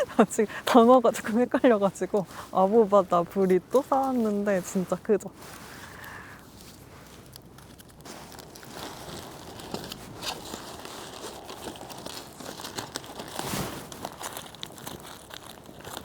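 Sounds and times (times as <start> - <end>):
wrapper crinkling and crackling: 0.0 - 16.0.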